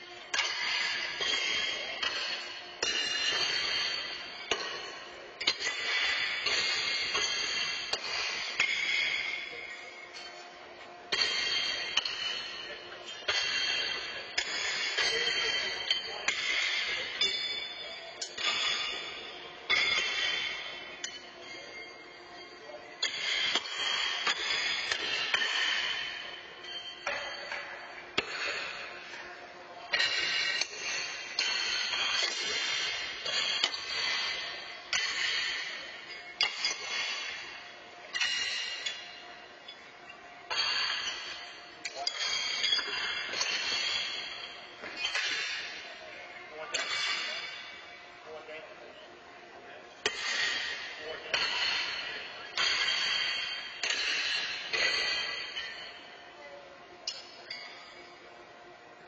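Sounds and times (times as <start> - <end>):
horseshoes clanging on metal stakes: 0.2 - 10.4, 11.1 - 48.0, 50.0 - 56.4, 57.0 - 58.2.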